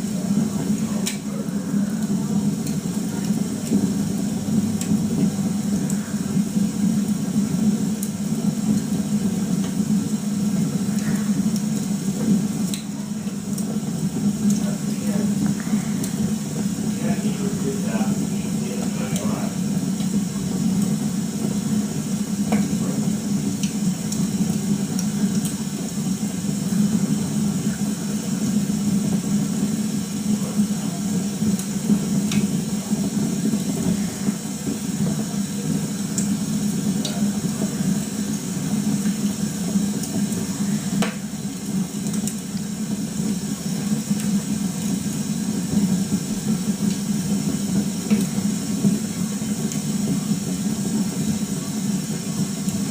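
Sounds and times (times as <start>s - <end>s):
log fire hissing and crackling: 0.0s - 52.9s.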